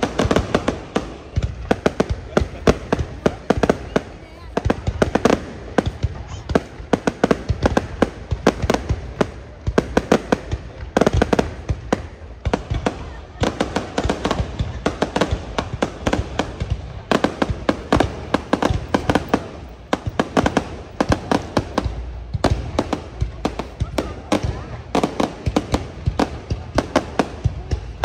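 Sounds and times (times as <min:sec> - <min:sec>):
aerial fireworks bangs and crackles: 0:00.0 - 0:28.0.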